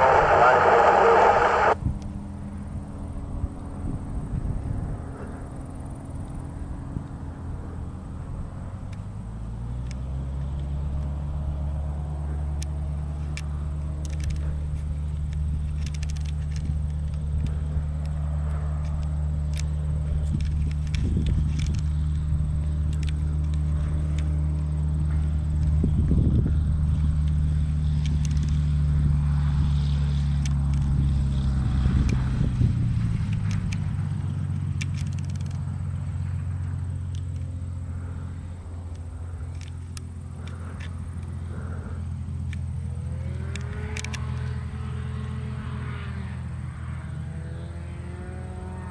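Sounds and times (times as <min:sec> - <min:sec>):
engine droning: 0:00.0 - 0:48.9.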